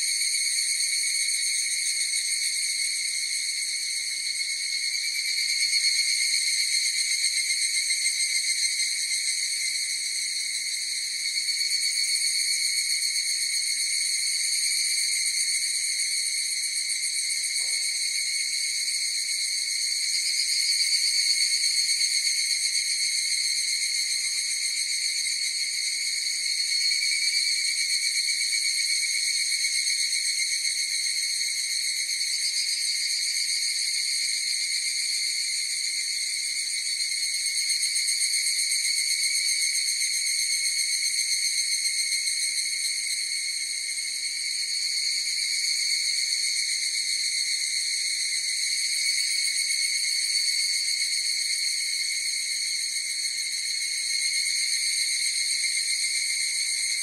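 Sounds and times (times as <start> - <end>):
cicada chorus trilling: 0.0 - 57.0.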